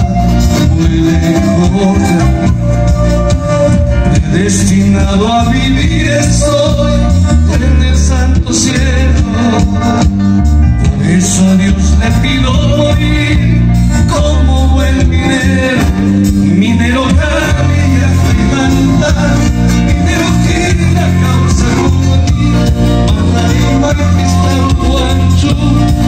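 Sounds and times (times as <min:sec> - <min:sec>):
live band playing: 0:00.0 - 0:26.0
man singing: 0:00.0 - 0:26.0.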